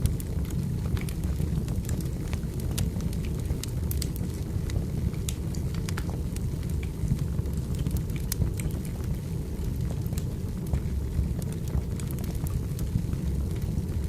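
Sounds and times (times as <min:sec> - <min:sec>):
firewood crackling and popping: 0:00.0 - 0:14.0
low fire rumble: 0:00.0 - 0:14.0.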